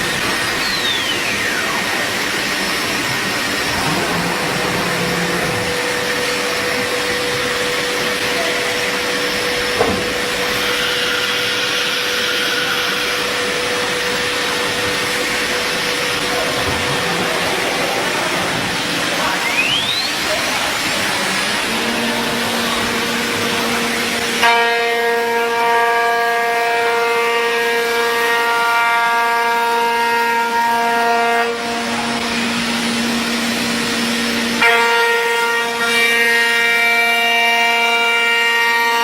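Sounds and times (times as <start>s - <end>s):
router spindle cutting wood: 0.0s - 25.8s, 29.9s - 39.0s.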